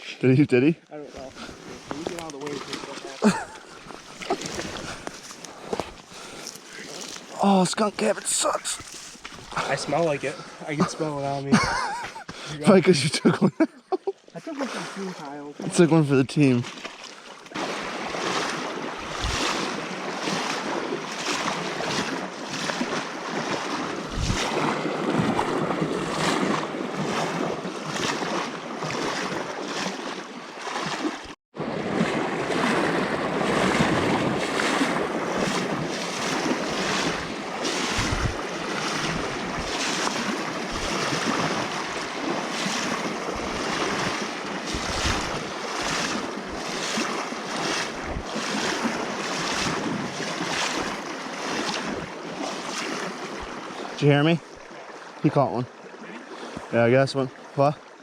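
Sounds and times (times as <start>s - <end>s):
creek water rushing: 1.0s - 11.5s, 14.3s - 58.0s.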